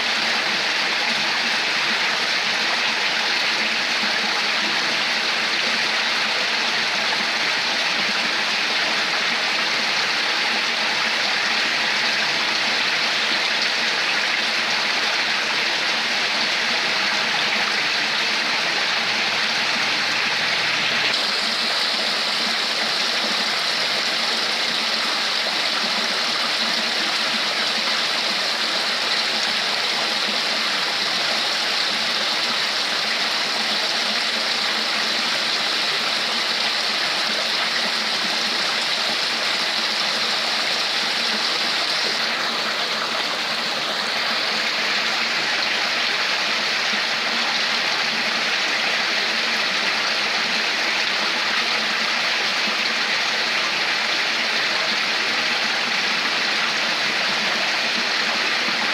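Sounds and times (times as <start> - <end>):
stream water flowing: 0.0 - 58.9.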